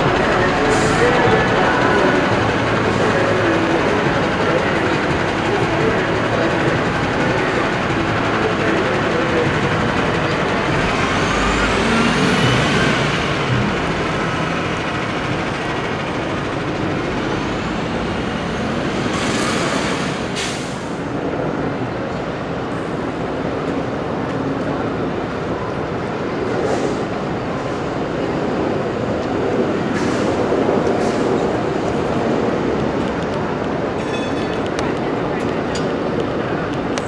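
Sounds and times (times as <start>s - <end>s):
heavy vehicle whine: 0.0s - 37.0s
street traffic: 0.0s - 37.0s.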